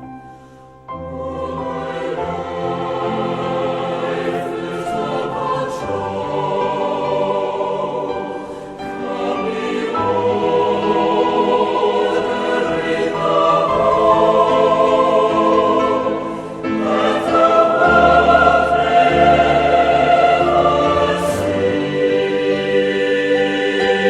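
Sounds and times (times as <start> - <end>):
choir singing held chords: 0.0 - 24.0.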